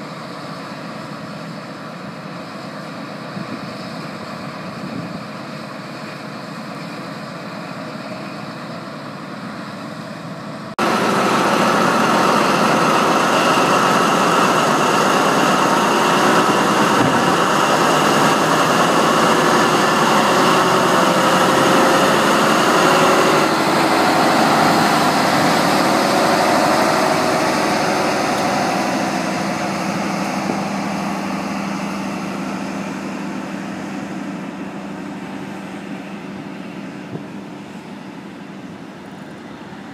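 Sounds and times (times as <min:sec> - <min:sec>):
diesel train engine running: 0:00.0 - 0:39.9.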